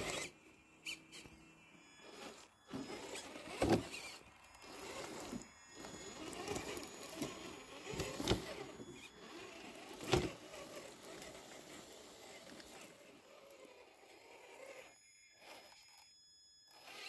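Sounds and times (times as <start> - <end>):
toy truck electric motor running: 0.0 - 17.0.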